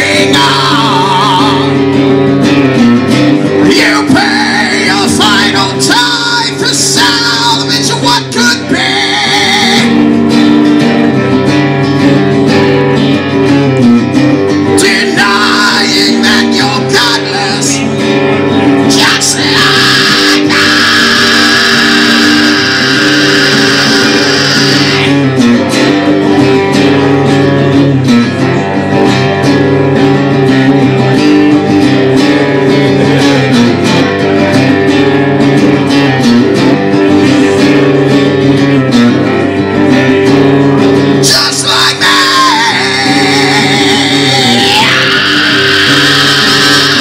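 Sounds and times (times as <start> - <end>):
amplified guitar strumming: 0.0 - 47.0.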